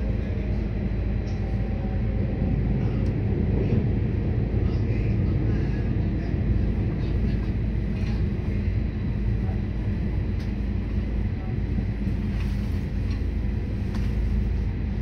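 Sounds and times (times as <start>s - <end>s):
rail rumble: 0.0s - 15.0s
railcar engine drone: 0.0s - 15.0s.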